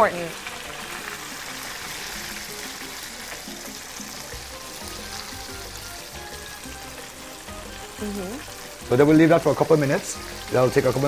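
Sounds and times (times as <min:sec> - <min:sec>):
fish sizzling in hot oil: 0:00.0 - 0:11.0
background music with bass line: 0:01.0 - 0:11.0.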